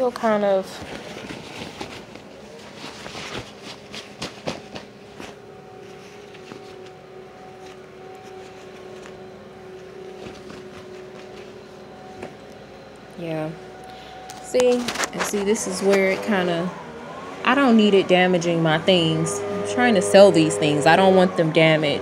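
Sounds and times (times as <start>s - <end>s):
leaf blower droning: 0.6s - 22.0s.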